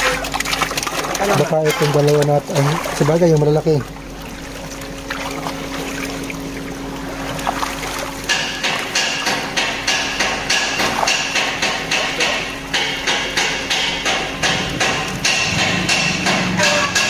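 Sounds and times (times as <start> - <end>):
faint water noise: 0.0 - 15.5
steady low hum: 0.0 - 17.0.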